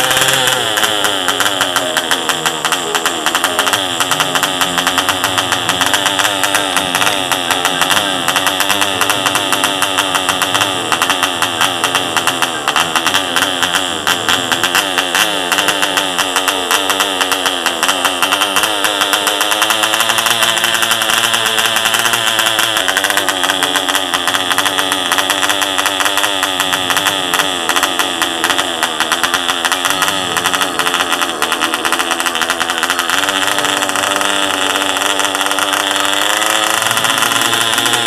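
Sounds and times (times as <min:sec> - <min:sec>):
model diesel engine running fast: 0:00.0 - 0:38.0.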